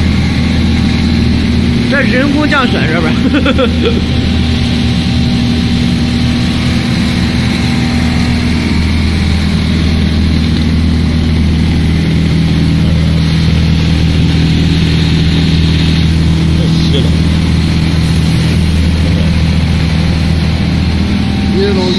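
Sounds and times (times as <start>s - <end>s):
motor humming: 0.0s - 21.9s.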